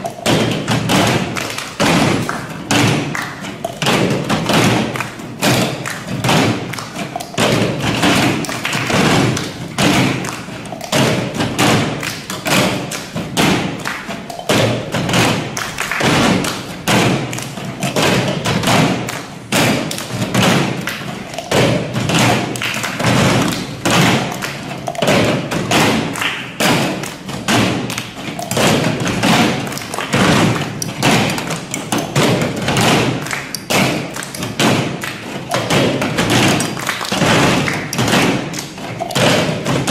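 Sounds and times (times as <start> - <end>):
hand claps: 0.0 - 39.9
plastic cups thumped on table: 0.0 - 39.9.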